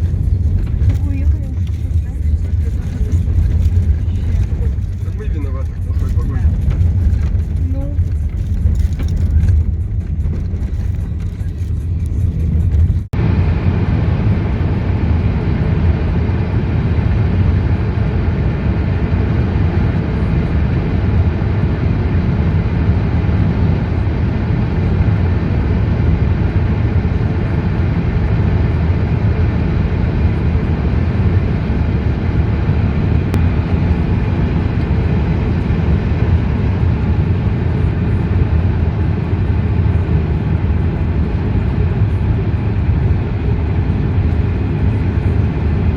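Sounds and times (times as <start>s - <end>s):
car driving rumble: 0.0s - 45.9s.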